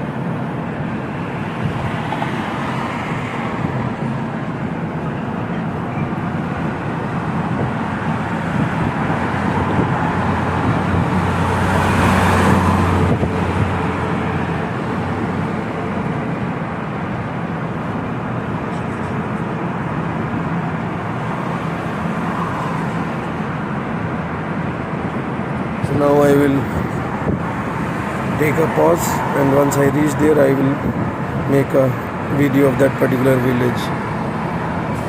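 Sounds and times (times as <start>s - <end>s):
car engine and tyre noise: 0.0s - 35.0s.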